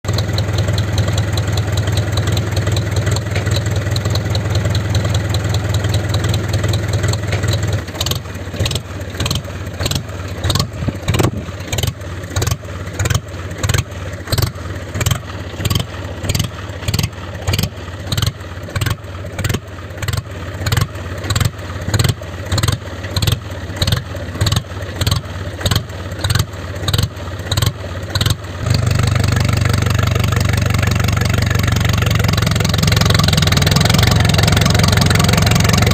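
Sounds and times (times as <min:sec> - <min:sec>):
mini tractor engine running: 0:00.0 - 0:35.9.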